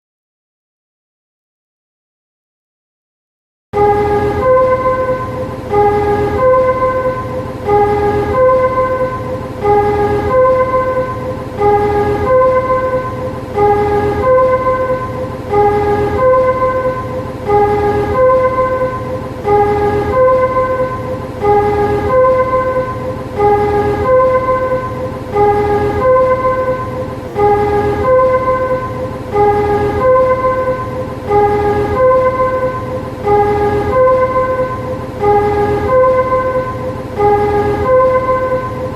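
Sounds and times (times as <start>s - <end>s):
electronic warning chime melody: 3.8s - 38.9s
steady low hum: 3.8s - 38.9s.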